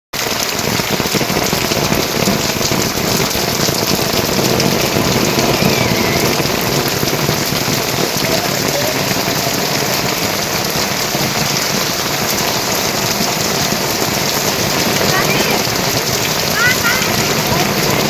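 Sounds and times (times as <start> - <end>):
heavy rain falling: 0.1 - 18.0.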